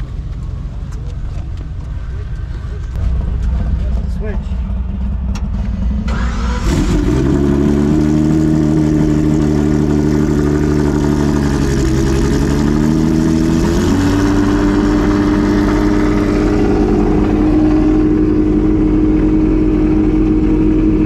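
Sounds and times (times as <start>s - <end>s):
race car engine starting and idling: 0.0s - 21.0s.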